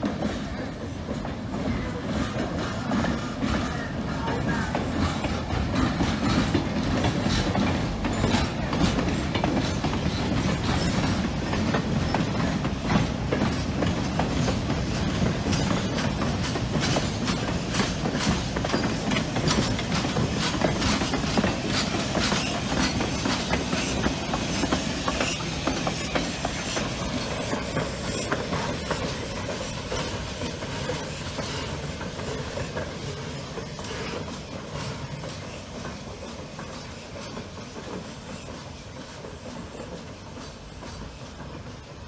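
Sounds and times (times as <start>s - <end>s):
train rumble: 0.0s - 42.0s
train wheels clicking over rail joints: 0.0s - 42.0s.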